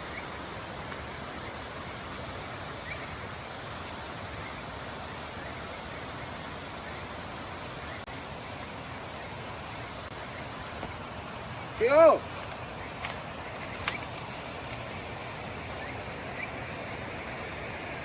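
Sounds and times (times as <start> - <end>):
insect chirping: 0.0 - 18.0
insects trilling: 0.0 - 18.0
steady hiss: 0.0 - 18.0.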